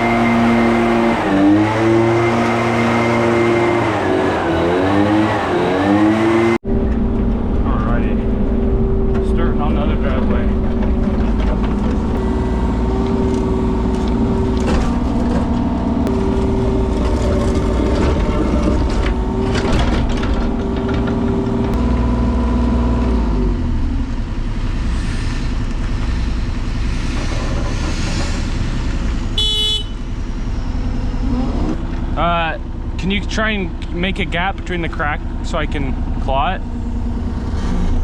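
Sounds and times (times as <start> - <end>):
construction machine engine running: 6.5 - 38.0.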